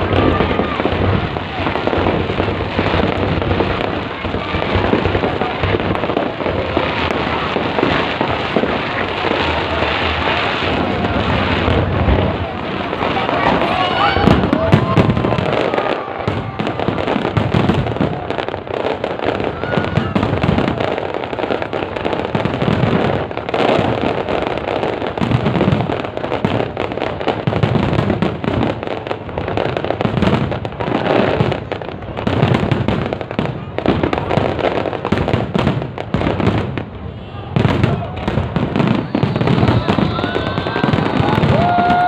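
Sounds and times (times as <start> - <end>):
deep fireworks booms: 0.0 - 42.0
fireworks bangs and crackles: 0.0 - 42.0.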